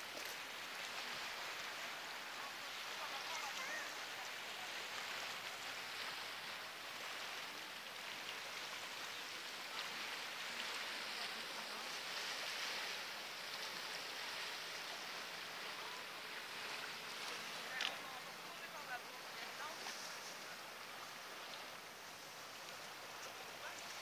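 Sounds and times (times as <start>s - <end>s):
shoreline ambience hiss: 0.0s - 24.0s.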